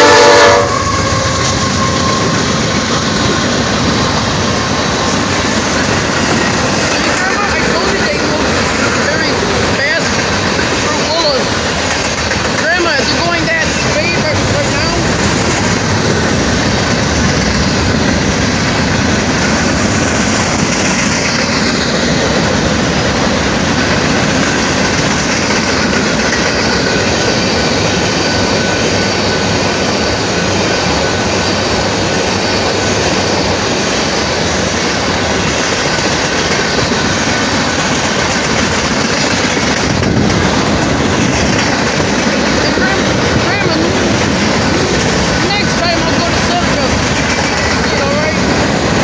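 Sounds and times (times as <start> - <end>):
train wheels clattering on rails: 0.0 - 49.0.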